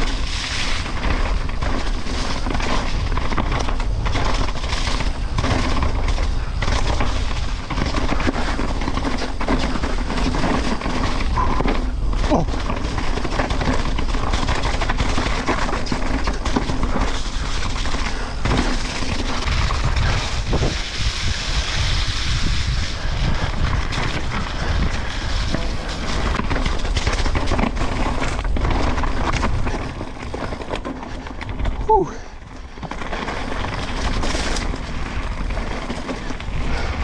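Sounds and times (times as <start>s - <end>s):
bike rattling over bumps: 0.0s - 37.0s
tyres rolling and skidding on dirt: 0.0s - 37.0s
wind buffeting microphone: 0.0s - 37.0s.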